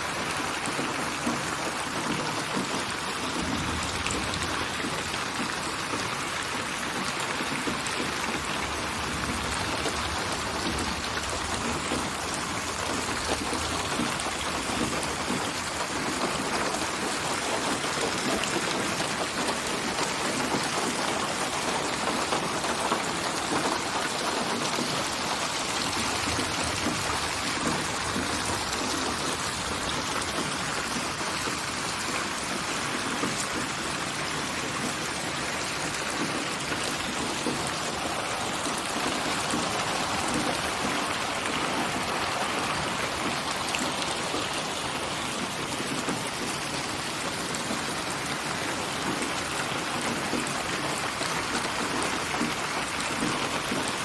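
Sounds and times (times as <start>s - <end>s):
raindrops pattering on surfaces: 0.0s - 54.0s
steady rain falling: 0.0s - 54.0s.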